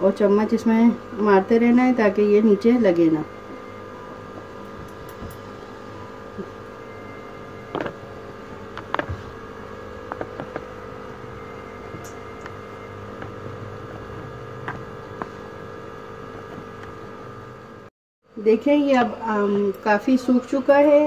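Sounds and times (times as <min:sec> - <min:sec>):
steady multi-tone hum: 0:00.0 - 0:21.0.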